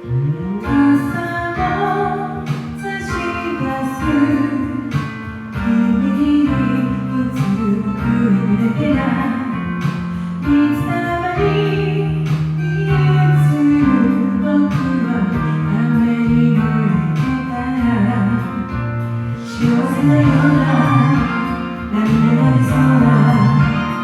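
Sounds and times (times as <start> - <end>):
karaoke backing track: 0.0 - 24.0
woman singing pop song: 0.4 - 24.0.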